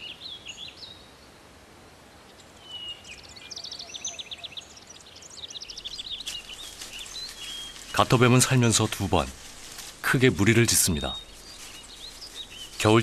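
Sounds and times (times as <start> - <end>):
small birds singing: 0.0 - 1.4, 2.2 - 13.0
faint outdoor background: 0.0 - 13.0.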